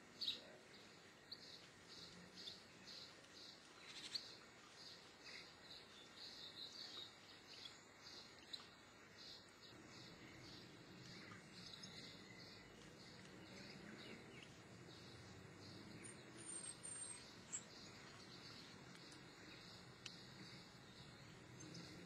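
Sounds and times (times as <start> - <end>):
faint background hiss: 0.0 - 22.0.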